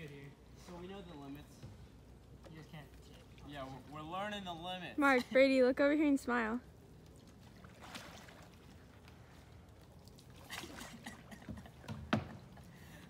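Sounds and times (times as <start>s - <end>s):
water splashes and drips: 0.0s - 13.0s
paddles stroking through water: 0.6s - 13.0s.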